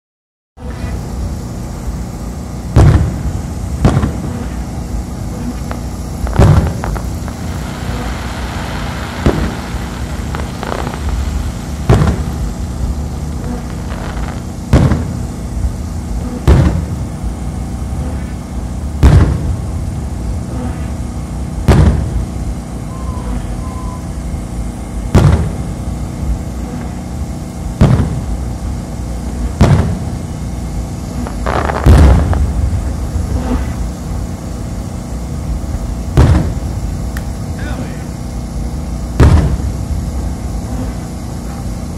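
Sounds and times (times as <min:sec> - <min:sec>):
fireworks booming: 0:00.6 - 0:41.9
steady low rumble: 0:00.6 - 0:41.9.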